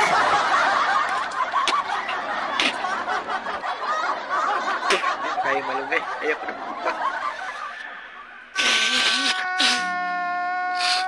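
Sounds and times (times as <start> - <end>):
crowd laughing: 0.0 - 10.2.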